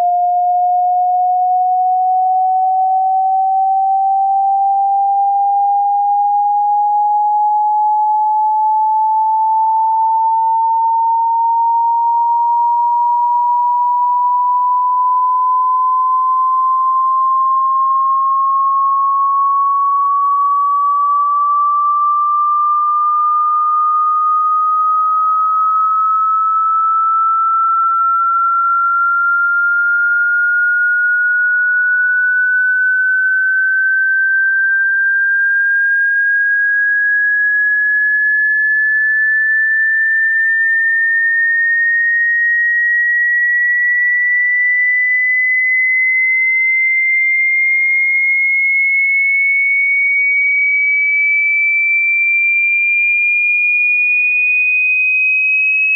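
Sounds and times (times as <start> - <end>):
rising sine test tone: 0.0 - 55.9.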